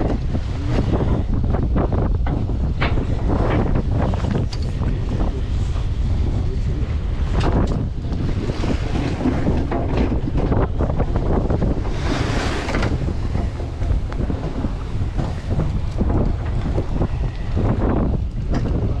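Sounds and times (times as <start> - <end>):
waves splashing against hull: 0.0 - 19.0
wind buffeting microphone: 0.0 - 19.0.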